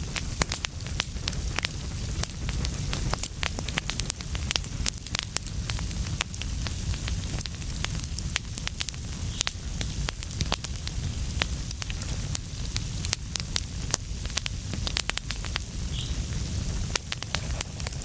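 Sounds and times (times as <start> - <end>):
fire flames rumbling: 0.0 - 18.0
wood fire crackling and popping: 0.0 - 18.0.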